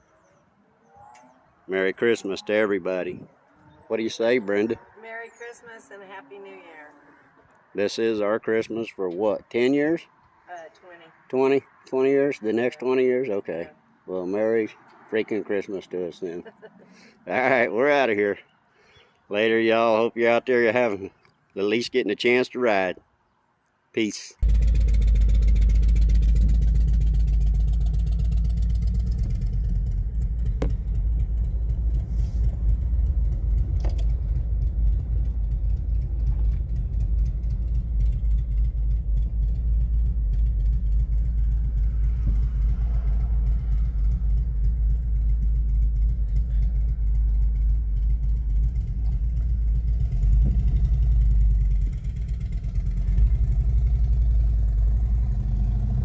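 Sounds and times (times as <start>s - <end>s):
motorcycle engine rumbling: 0.0s - 18.6s, 24.4s - 56.0s.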